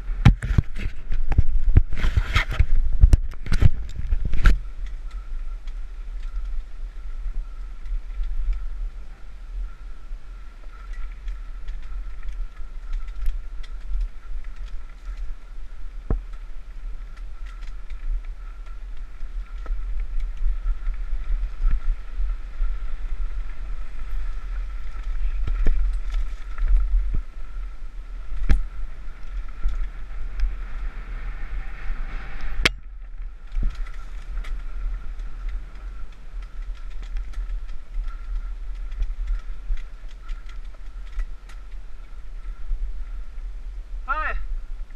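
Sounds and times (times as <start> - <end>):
bike rattling and knocking: 0.0 - 31.0, 31.9 - 43.2
low wind rumble: 0.0 - 44.9.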